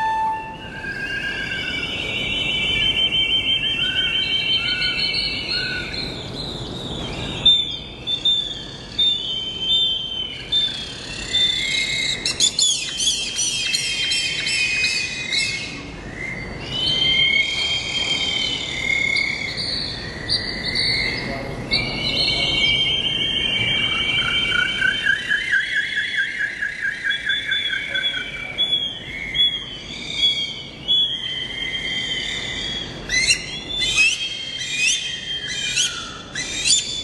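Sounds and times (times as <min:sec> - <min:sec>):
birds trilling and chirping: 0:00.0 - 0:37.0
steady low background noise: 0:00.0 - 0:37.0.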